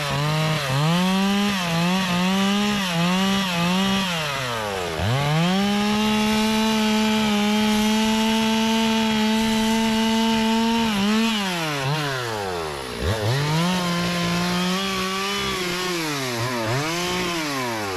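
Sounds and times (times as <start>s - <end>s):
chainsaw cutting wood: 0.0s - 17.9s.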